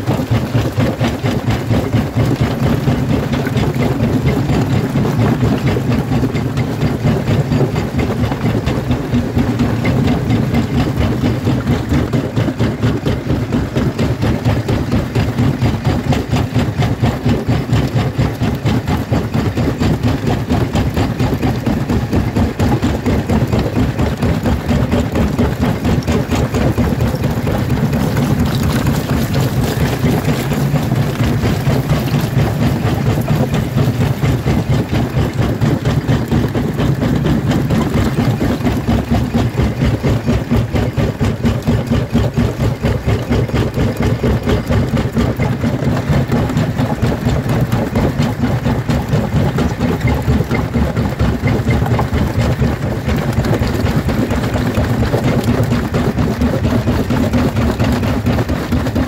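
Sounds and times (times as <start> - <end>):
rapid stone clatter: 0.0 - 59.0
stone crusher rumbling: 0.0 - 59.0.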